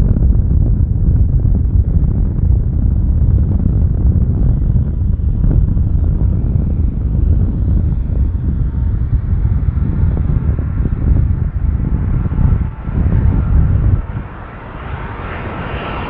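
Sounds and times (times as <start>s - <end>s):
faint engine whine: 0.0s - 16.0s
jet airliner engines rumbling: 0.0s - 16.0s.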